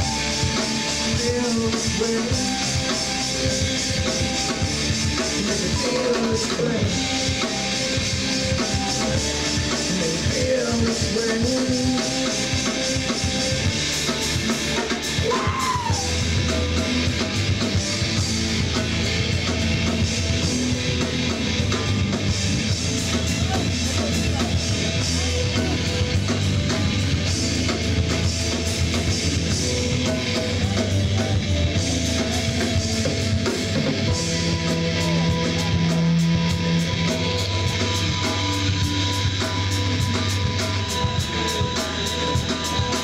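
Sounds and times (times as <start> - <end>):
bass guitar: 0.0 - 43.0
distorted electric guitars: 0.0 - 43.0
drum kit: 0.0 - 43.0.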